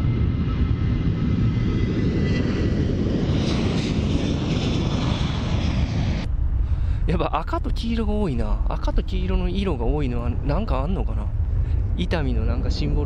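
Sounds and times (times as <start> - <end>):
jet airliner engines running: 0.0 - 13.0.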